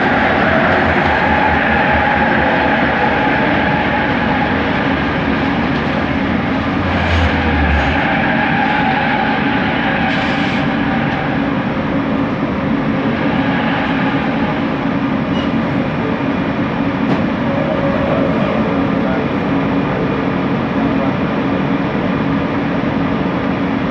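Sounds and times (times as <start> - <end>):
train motor hum: 0.0 - 23.9
train rolling rumble: 0.0 - 23.9.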